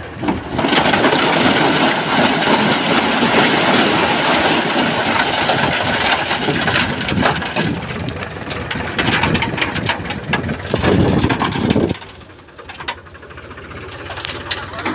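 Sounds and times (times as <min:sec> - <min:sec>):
diesel engine running: 0:00.0 - 0:14.9
loose stones clattering: 0:00.0 - 0:14.9.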